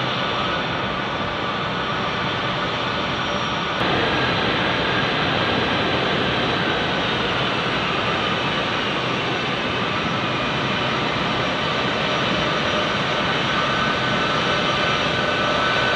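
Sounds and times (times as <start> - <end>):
jet engines running: 0.0 - 15.9.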